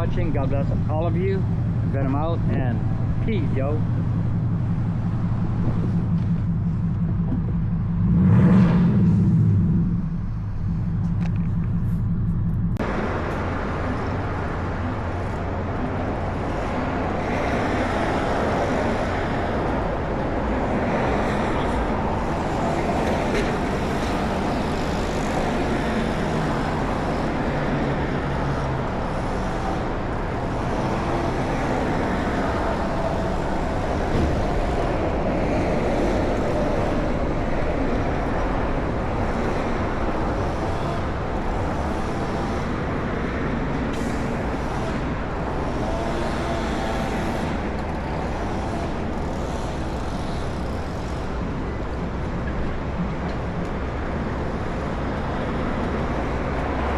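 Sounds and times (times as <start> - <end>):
vehicle and road noise: 0.0 - 56.9.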